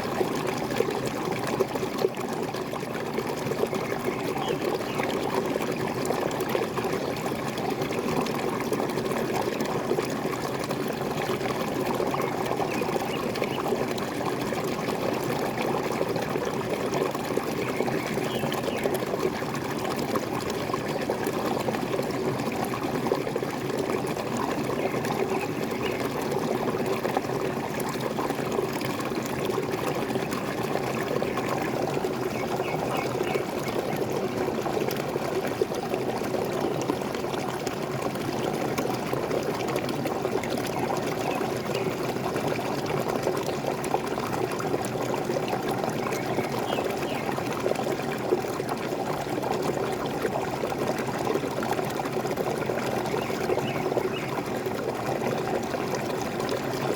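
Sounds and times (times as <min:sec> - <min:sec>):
small waterfall splashing: 0:00.0 - 0:56.9.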